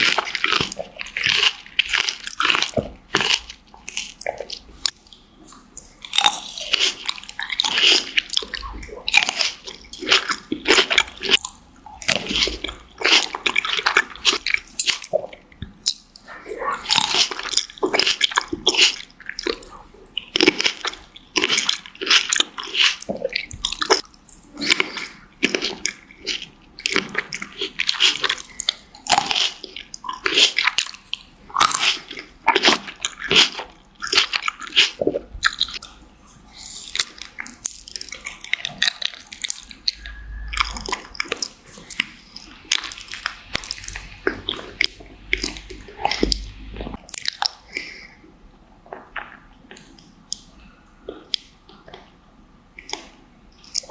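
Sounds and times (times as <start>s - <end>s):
biting and chewing fruit: 0.0s - 48.2s, 48.8s - 53.9s.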